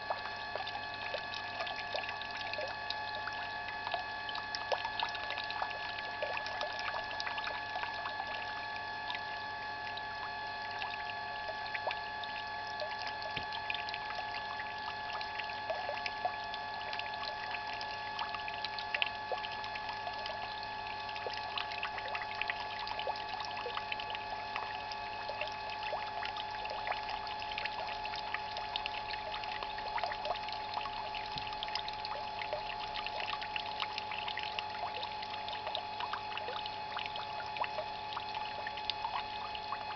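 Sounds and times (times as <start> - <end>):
juice trickling into a plastic tub: 0.0 - 39.9
pump whine: 0.0 - 39.9.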